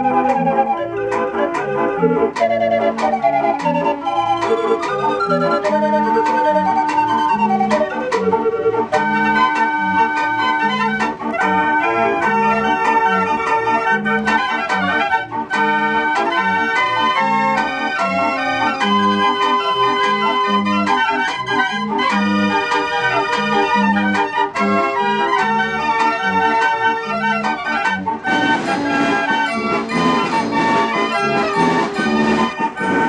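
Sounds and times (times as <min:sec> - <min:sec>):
street organ playing: 0:00.0 - 0:33.0.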